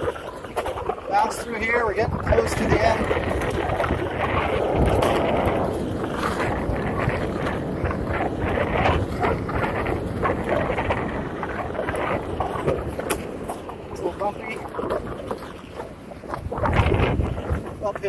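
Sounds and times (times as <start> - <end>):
tyre rolling on dirt trail: 0.0 - 18.0
wind buffeting microphone: 0.0 - 18.0.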